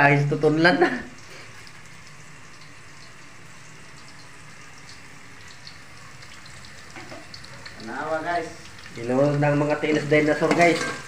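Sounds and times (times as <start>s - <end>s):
food hissing in a pot: 1.1s - 11.0s.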